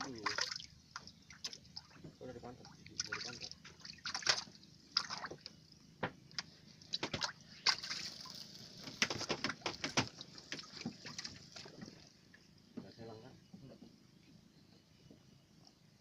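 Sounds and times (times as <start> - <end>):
water sloshing and dripping: 0.0 - 12.9.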